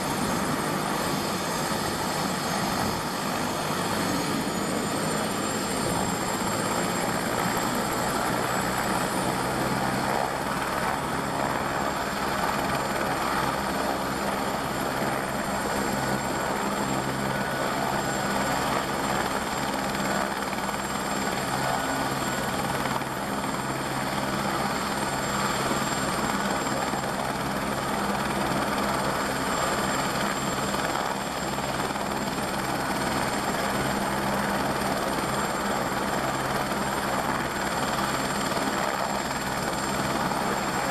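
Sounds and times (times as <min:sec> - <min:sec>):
helicopter rotor beat: 0:00.0 - 0:40.9
helicopter turbine whine: 0:00.0 - 0:40.9.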